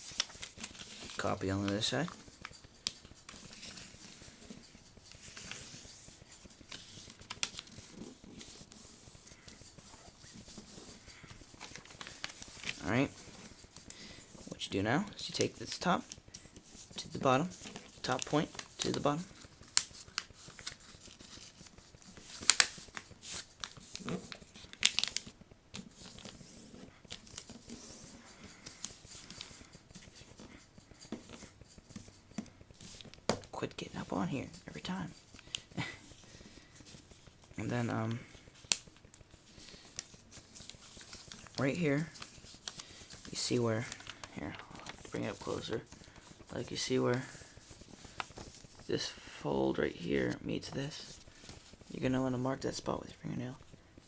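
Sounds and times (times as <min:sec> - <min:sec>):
paper being folded and creased: 0:00.0 - 0:54.0.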